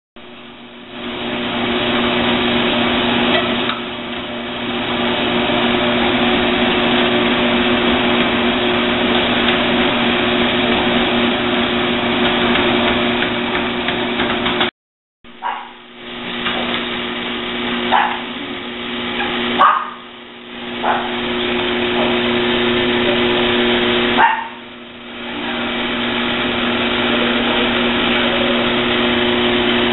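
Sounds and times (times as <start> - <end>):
treadmill motor humming and whirring: 0.2 - 14.7, 15.3 - 29.9.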